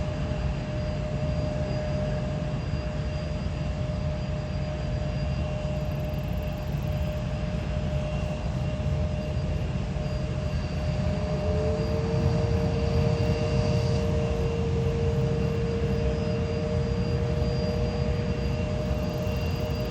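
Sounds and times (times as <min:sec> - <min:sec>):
jet airliner engines whining: 0:00.0 - 0:19.9
lower engine whine: 0:00.0 - 0:19.9.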